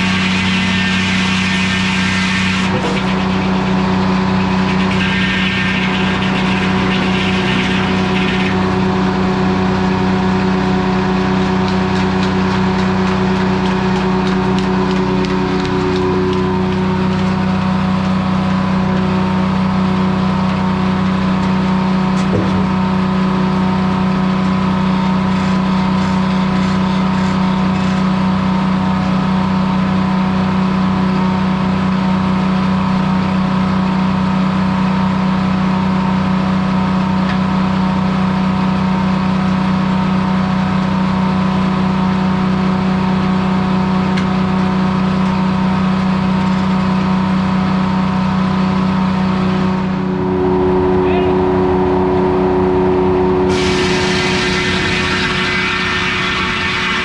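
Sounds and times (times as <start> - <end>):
sawmill droning: 0.0 - 57.0.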